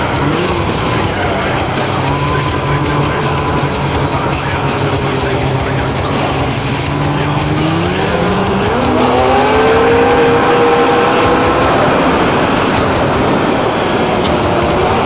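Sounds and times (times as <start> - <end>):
rushing track and wind: 0.0 - 15.0
snowmobile engine accelerating: 0.0 - 15.0.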